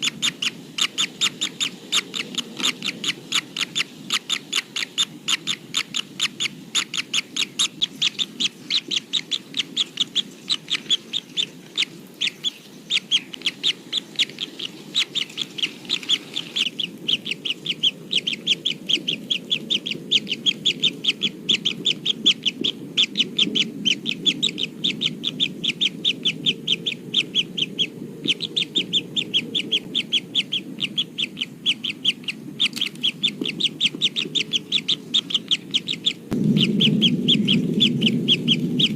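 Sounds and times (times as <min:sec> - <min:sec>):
nestlings chirping: 0:00.0 - 0:38.9.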